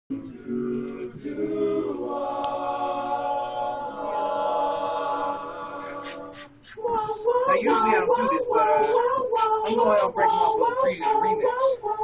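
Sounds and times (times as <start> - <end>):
vocal group singing chords: 0.1 - 12.0.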